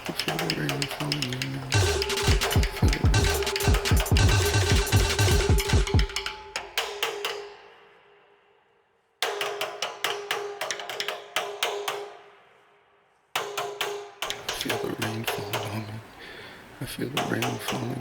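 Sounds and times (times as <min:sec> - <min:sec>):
music: 0:00.0 - 0:16.4, 0:17.0 - 0:18.0.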